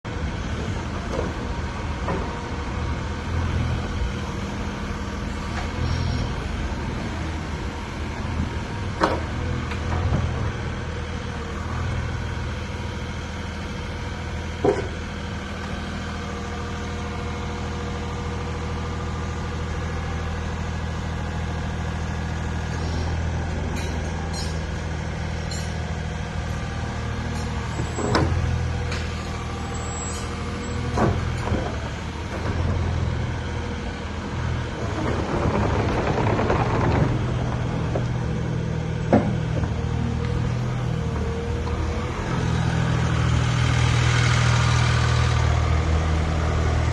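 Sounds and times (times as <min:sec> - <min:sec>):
excavator diesel engine running: 0:00.1 - 0:46.9.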